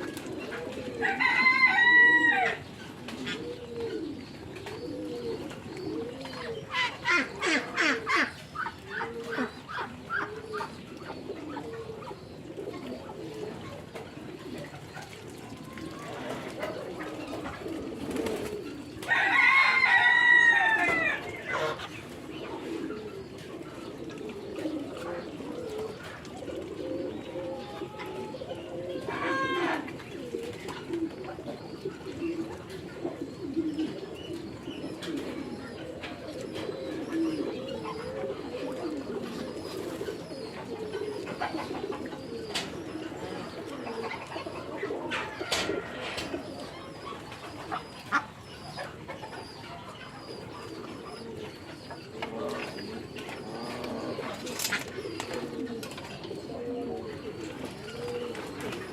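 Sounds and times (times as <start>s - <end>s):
flock of birds calling: 0.0s - 58.9s.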